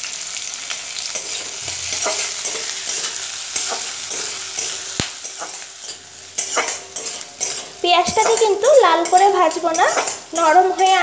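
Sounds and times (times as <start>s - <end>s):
onion sizzling in hot oil: 0.0s - 11.0s
spatula scraping a pan: 1.0s - 11.0s.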